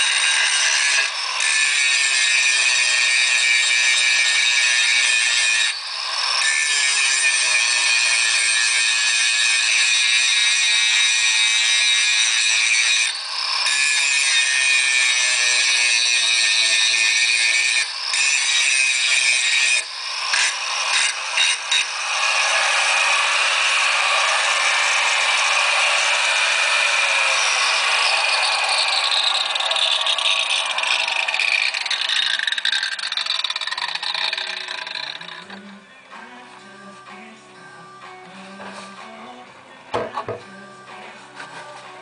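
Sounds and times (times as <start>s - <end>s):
angle grinder grinding metal: 0.0s - 39.4s.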